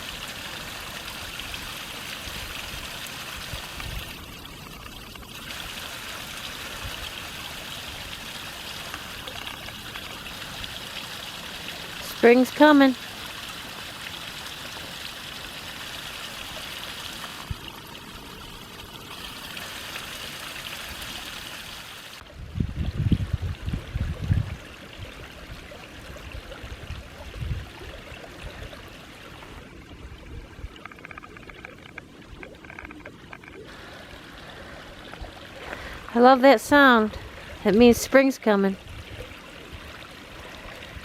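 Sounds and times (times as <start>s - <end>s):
stream water trickling: 0.0s - 41.0s.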